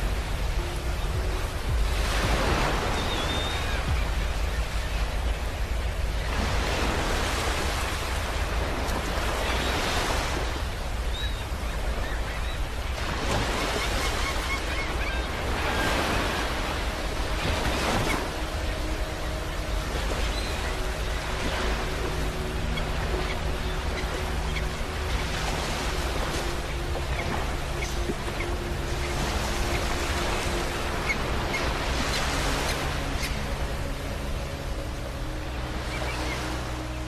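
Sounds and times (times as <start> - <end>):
low rumble of the sea: 0.0 - 37.0
ocean waves breaking on beach: 0.0 - 37.0.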